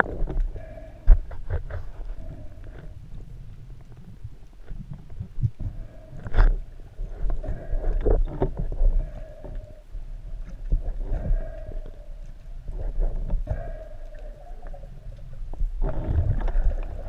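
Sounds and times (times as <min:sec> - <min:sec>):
faint hum: 0:00.0 - 0:17.0
underwater rumble: 0:00.0 - 0:17.0.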